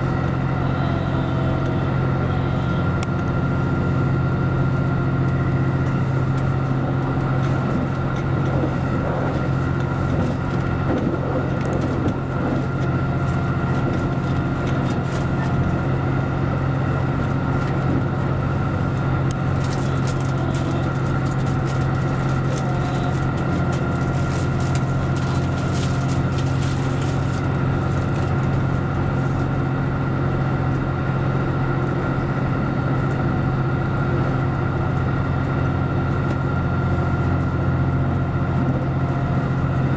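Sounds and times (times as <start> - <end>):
diesel train engine drone: 0.0 - 39.9.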